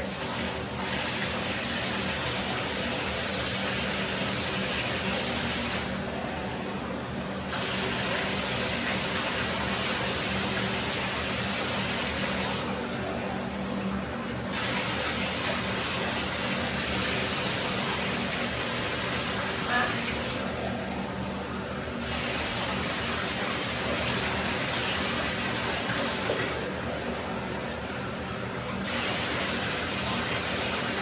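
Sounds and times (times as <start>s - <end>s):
tap water gushing into tub: 0.0s - 31.0s.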